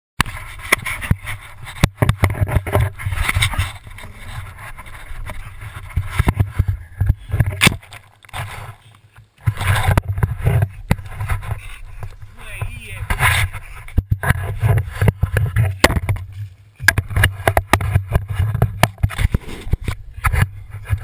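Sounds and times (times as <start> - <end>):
camera knocks and bumps: 0.6 - 4.0, 5.2 - 8.5, 9.4 - 12.2, 13.0 - 21.0.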